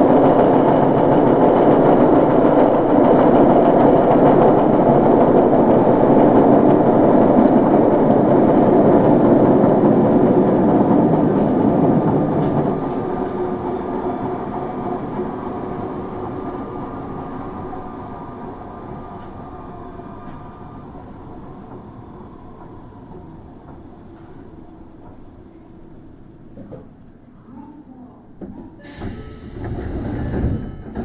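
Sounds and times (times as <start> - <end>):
subway car running noise: 0.0 - 31.0.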